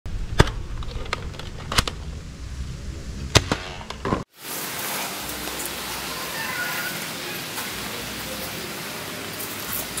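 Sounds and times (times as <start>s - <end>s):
steady hiss: 1.6s - 10.0s.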